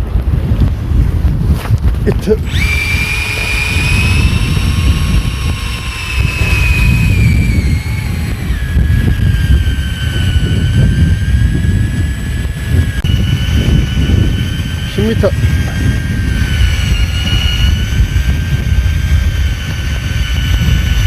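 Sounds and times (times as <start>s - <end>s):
wind rumble on microphone: 0.0s - 21.0s
electric fishing reel motor whine: 2.4s - 21.0s.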